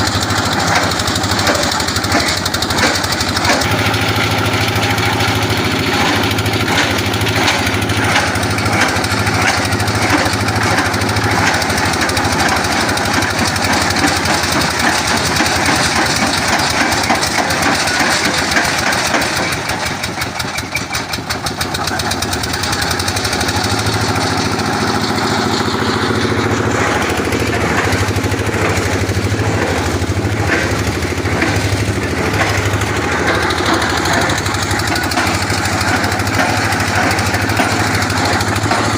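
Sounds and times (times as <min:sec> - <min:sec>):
boring rig engine humming: 0:00.0 - 0:38.9.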